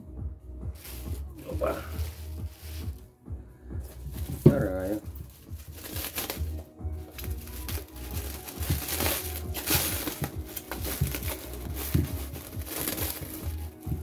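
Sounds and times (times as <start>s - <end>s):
plastic wrap rustling and crackling: 0.8s - 3.0s, 3.9s - 14.0s.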